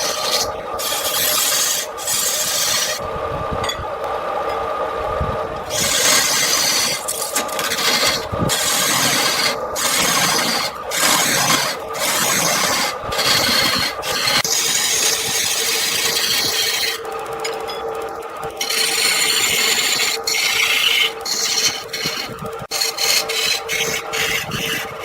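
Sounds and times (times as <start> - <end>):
lathe tool scraping wood: 0.0 - 3.0, 5.6 - 17.4, 18.4 - 25.0
lathe motor hum: 0.0 - 25.0.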